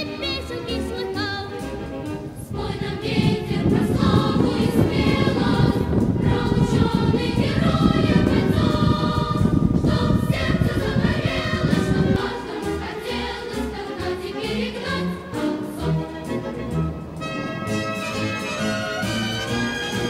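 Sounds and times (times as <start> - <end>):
choir singing with instruments: 0.0 - 20.0.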